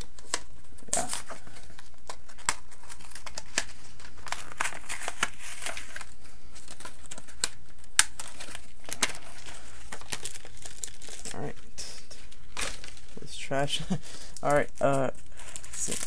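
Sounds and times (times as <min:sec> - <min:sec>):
foil wrapper crinkling and tearing: 0:00.0 - 0:16.0.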